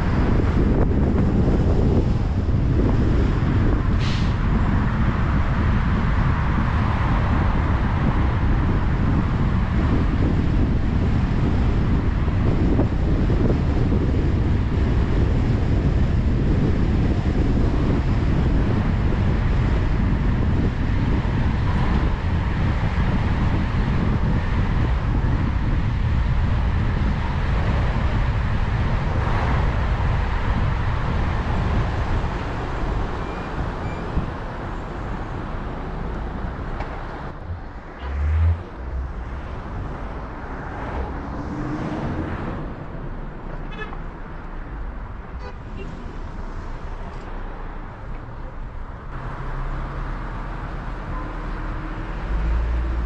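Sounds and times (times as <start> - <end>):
road and wind noise: 0.0 - 53.0.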